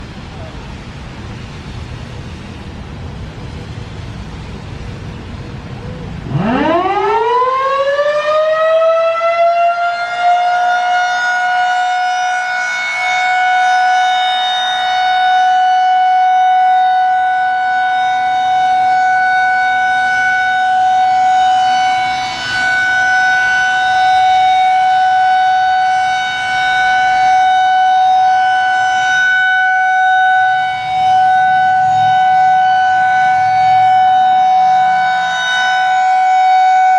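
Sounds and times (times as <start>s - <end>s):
outdoor warning siren winding up: 6.2s - 36.9s.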